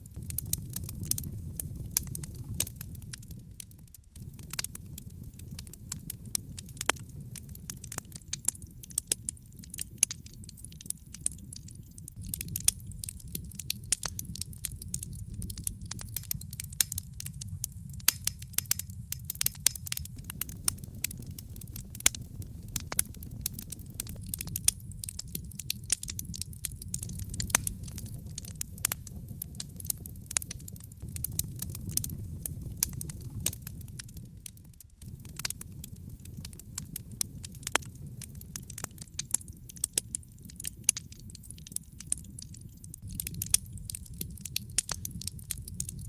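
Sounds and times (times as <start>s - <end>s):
low rumble of flames: 0.0s - 46.0s
wood fire crackling and popping: 0.0s - 46.0s.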